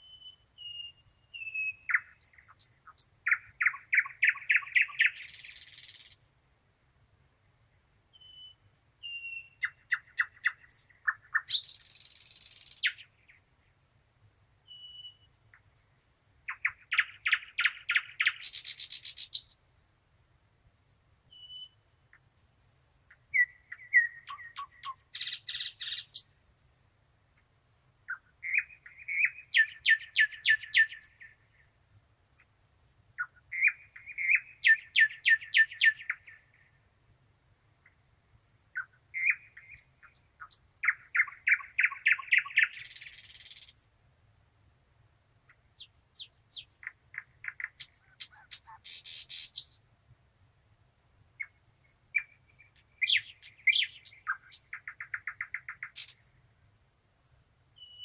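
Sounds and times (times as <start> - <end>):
thrush nightingale singing: 0.0 - 6.4, 7.5 - 19.6, 20.7 - 26.4, 27.6 - 32.1, 32.7 - 43.9, 45.0 - 50.0, 50.8 - 56.5, 57.2 - 58.0.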